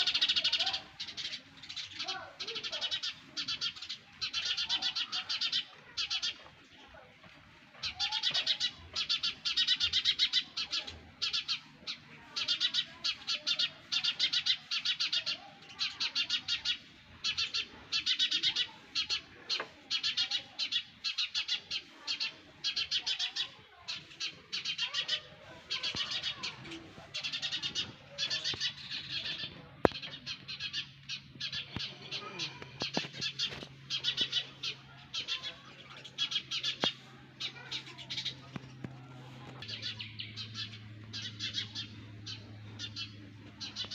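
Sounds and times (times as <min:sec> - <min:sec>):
nestlings chirping: 0:00.0 - 0:07.0, 0:07.8 - 0:43.9.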